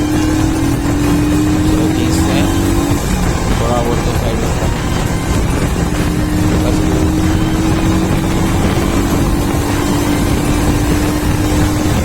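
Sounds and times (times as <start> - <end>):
motorcycle engine at high revs: 0.0 - 12.0
road and wind noise: 0.0 - 12.0.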